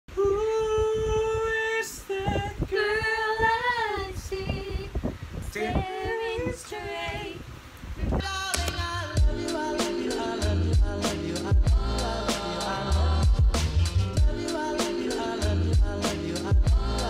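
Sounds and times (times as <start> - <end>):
person singing unaccompanied: 0.1 - 17.0.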